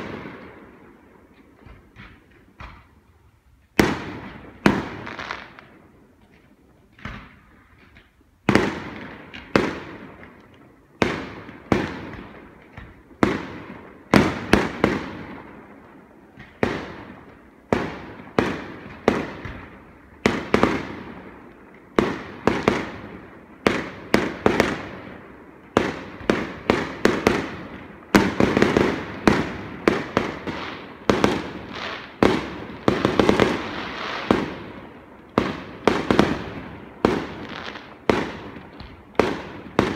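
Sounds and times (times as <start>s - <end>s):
fireworks bangs with echo: 0.0s - 39.9s.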